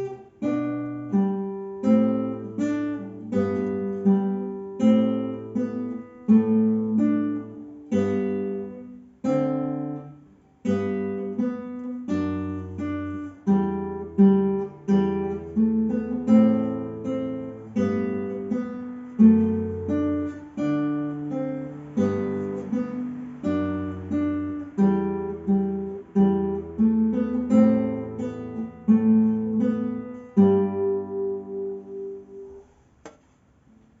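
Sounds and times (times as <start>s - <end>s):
acoustic guitar playing: 0.0s - 33.9s.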